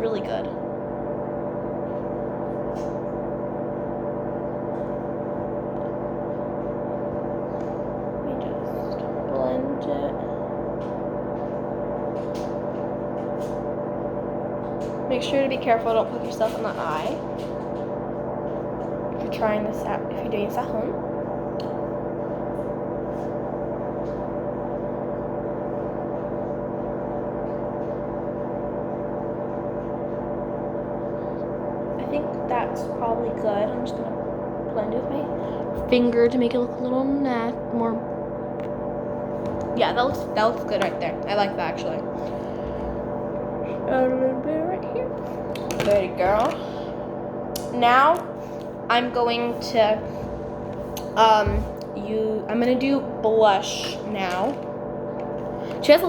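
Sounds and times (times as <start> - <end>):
drone of low tones: 0.0 - 56.0.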